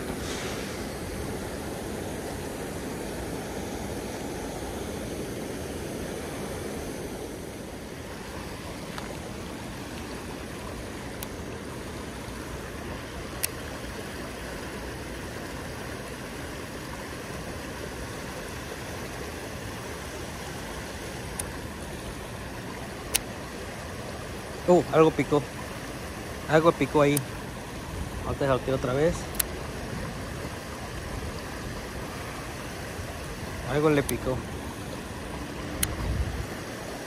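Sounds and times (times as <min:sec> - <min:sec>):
stream water rushing over rocks: 0:00.0 - 0:37.0.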